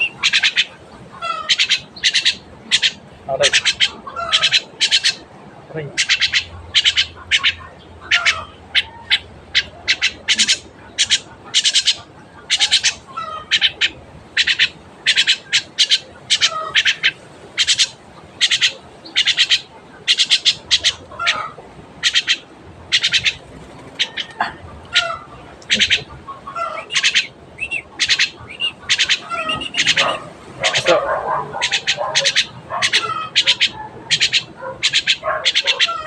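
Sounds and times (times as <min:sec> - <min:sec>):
pet bird squawking: 0:00.0 - 0:36.0.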